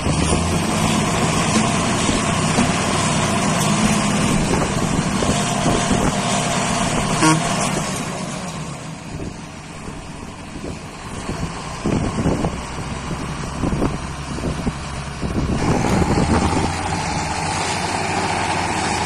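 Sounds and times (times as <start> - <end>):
tractor diesel engines running: 0.0 - 19.0.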